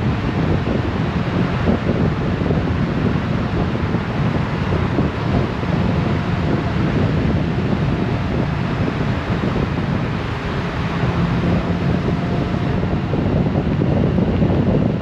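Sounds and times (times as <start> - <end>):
motorcycle road and engine noise: 0.0 - 15.0
wind buffeting microphone: 0.0 - 15.0.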